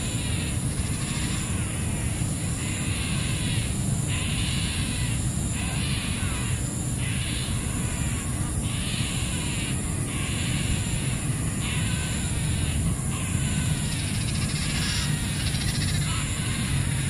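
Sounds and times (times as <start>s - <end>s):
harsh rasping animal calls: 0.0s - 17.0s.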